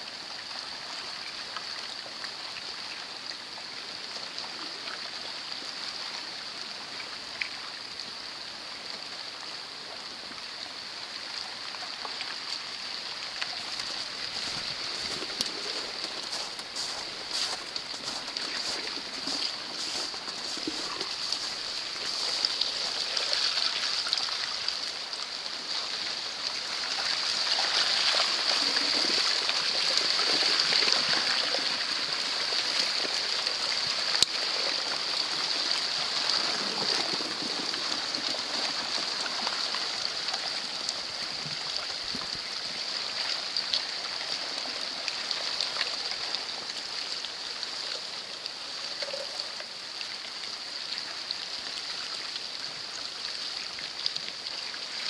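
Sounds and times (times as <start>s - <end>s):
river water trickling through ice: 0.0s - 55.0s.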